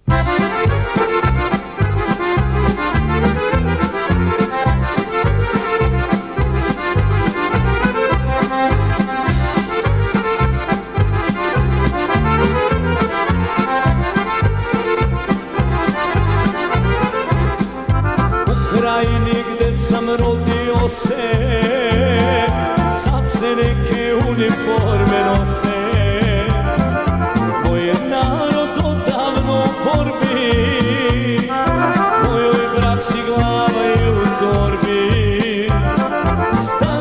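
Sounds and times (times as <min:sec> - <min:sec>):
accordion: 0:00.0 - 0:37.0
fast bass beat: 0:00.0 - 0:37.0.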